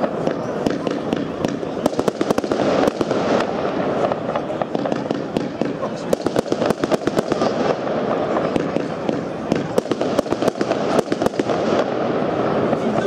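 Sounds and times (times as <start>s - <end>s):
firework cake bangs and crackles: 0.0s - 13.0s.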